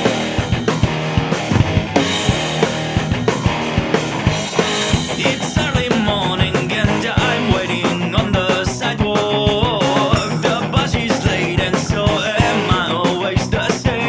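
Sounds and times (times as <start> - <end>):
drum kit beat: 0.0 - 14.0
guitar: 0.0 - 14.0
rock band playing: 0.0 - 14.0.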